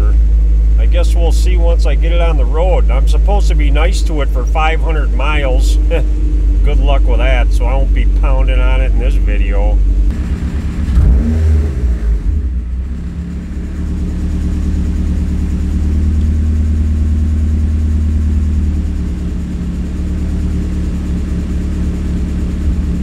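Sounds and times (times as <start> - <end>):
car engine droning: 0.0 - 23.0.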